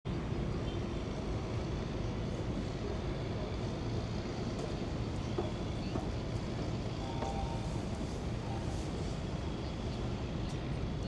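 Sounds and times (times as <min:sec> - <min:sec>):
low rumble of city ambience: 0:00.1 - 0:11.0.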